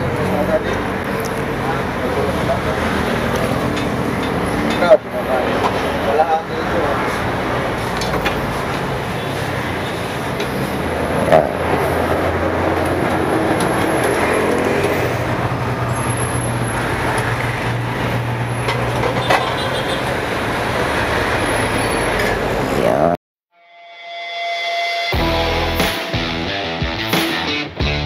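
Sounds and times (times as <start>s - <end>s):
road traffic noise: 0.0s - 23.2s, 25.2s - 28.0s.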